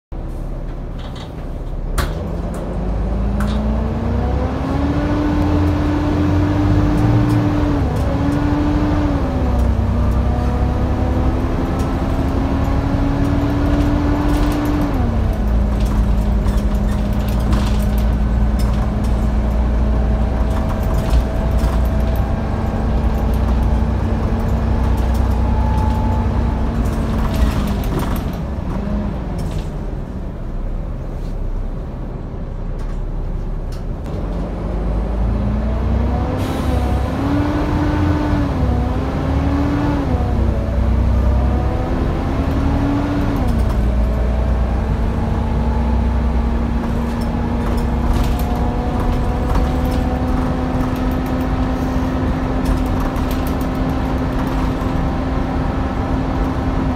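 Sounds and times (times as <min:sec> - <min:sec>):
bus diesel engine rumble: 0:00.1 - 0:56.9.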